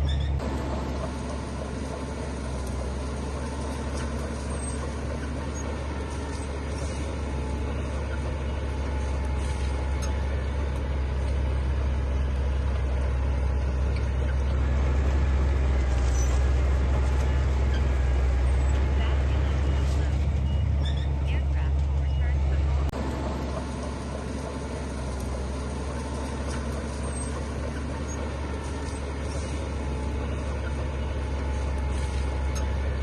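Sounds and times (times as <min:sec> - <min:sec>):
diesel machinery rumbling: 0:00.0 - 0:33.0.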